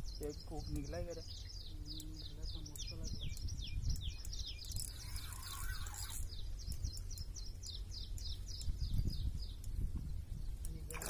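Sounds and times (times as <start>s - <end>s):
bird chirping: 0.0s - 11.0s
low wind rumble: 0.0s - 11.0s.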